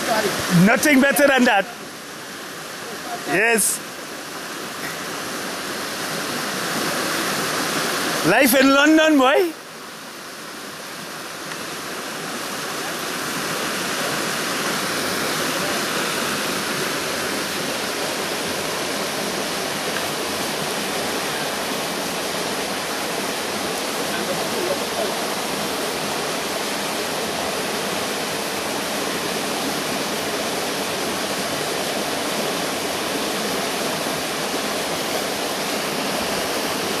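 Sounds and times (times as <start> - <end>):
water rushing down rocky cascade: 0.0 - 37.0.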